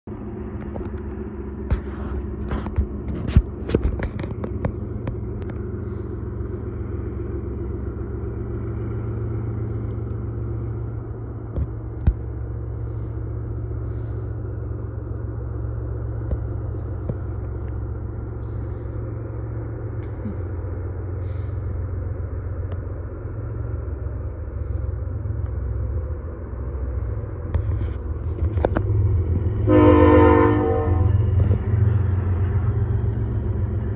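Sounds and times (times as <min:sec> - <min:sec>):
diesel locomotive drone: 0:00.0 - 0:33.9.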